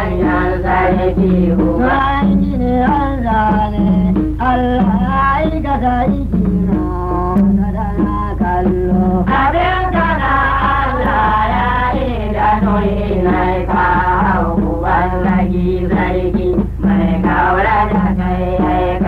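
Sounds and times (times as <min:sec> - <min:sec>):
drum accompaniment: 0:00.0 - 0:19.0
person singing: 0:00.0 - 0:19.0.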